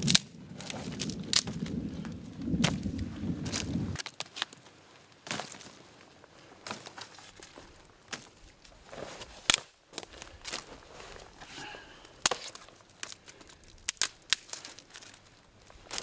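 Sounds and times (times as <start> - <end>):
branches snapping: 0.0 - 6.0, 6.6 - 11.4, 12.0 - 16.0
twigs rustling and crackling: 0.0 - 16.0.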